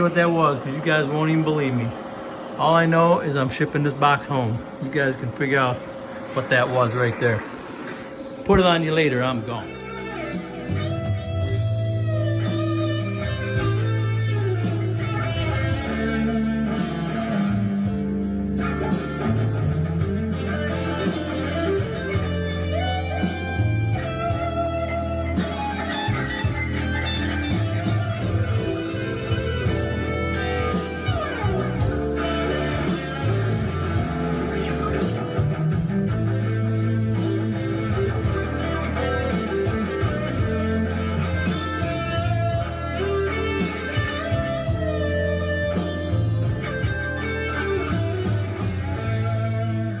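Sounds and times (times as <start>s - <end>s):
guitar-led background music: 0.0s - 50.0s.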